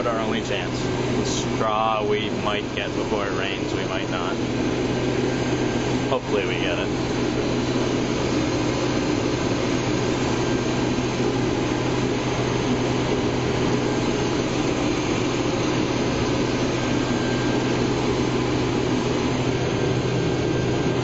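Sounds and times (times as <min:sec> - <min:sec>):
combine harvester running: 0:00.0 - 0:21.0.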